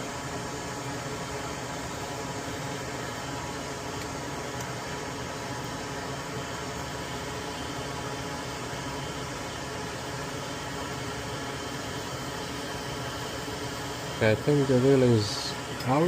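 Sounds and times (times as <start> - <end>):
hot air station hissing: 0.0 - 16.0.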